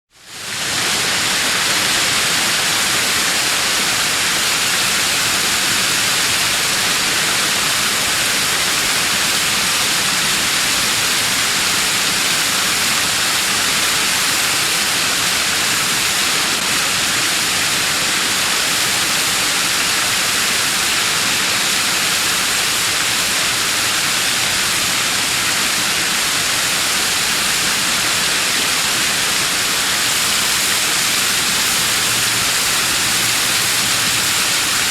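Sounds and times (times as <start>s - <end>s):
waterfall spray hissing: 0.2s - 34.9s.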